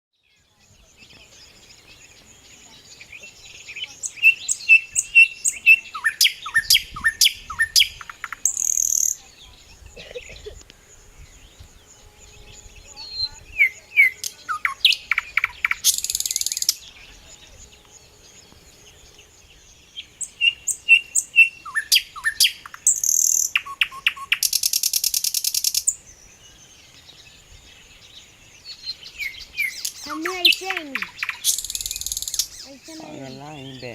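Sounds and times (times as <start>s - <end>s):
songbird whistling and buzzing: 0.2s - 33.9s.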